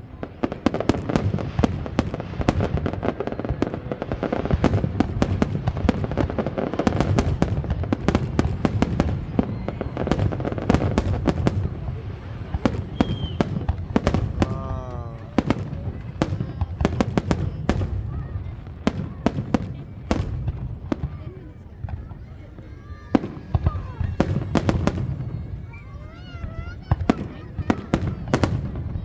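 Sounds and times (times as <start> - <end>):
fireworks crackling bangs: 0.0 - 29.0.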